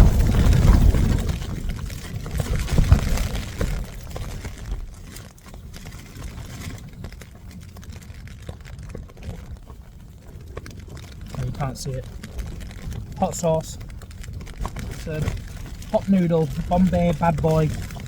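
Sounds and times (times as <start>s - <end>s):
light ticks and rustles: 0.0s - 18.0s
storm wind gusting against tent: 0.0s - 18.0s.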